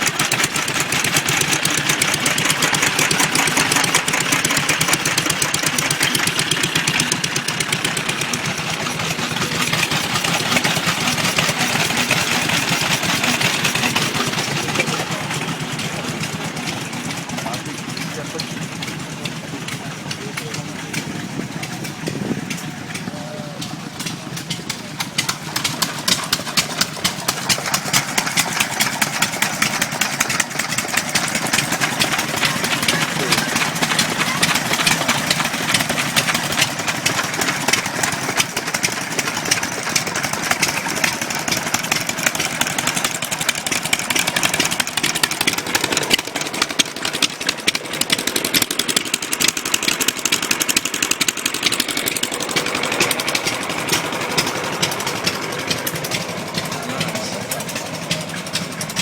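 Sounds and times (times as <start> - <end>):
stationary engines running: 0.0 - 59.0.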